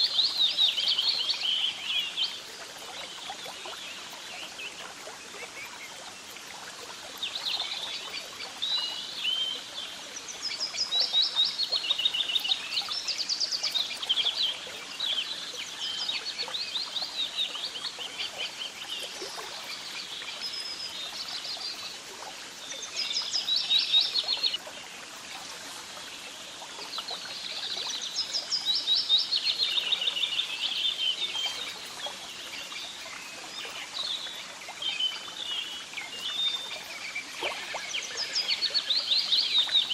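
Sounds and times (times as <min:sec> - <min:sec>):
faint outdoor background hiss: 0:00.0 - 0:39.9.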